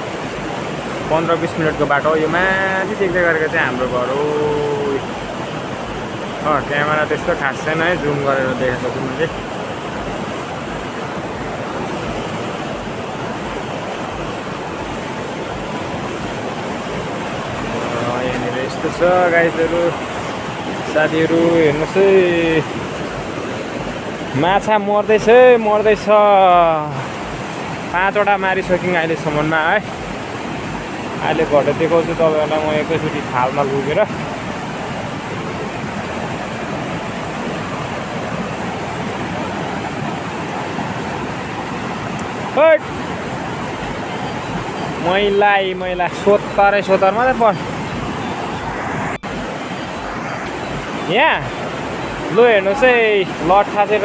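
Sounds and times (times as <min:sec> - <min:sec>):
river rushing over boulders: 0:00.0 - 0:54.0.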